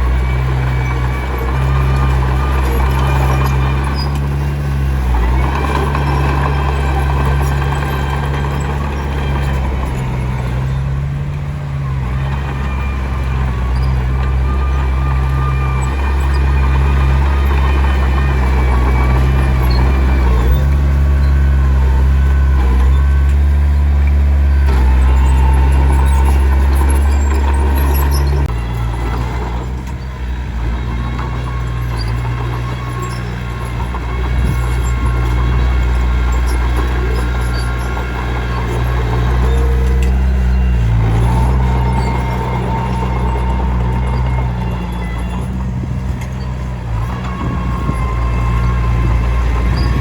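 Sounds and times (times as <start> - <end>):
bulldozer diesel engine under load: 0.0 - 50.0.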